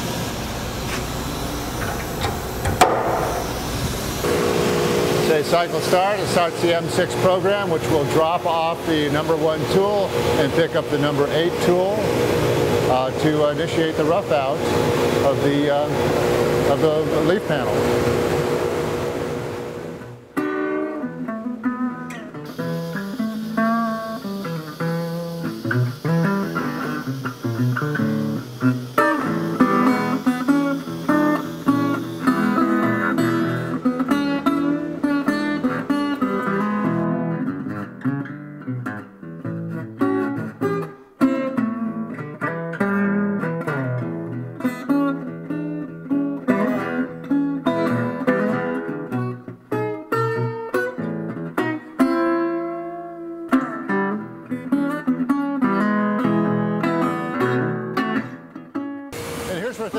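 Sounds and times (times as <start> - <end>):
resonator guitar picking: 0.5 - 59.4.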